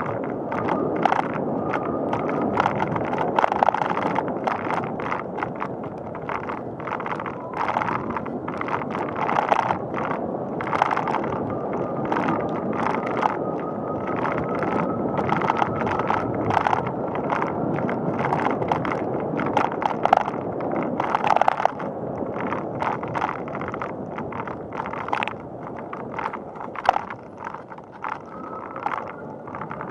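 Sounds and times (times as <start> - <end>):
bicycle tyre road noise: 0.0 - 29.9
bike rattling over bumps: 0.0 - 29.9.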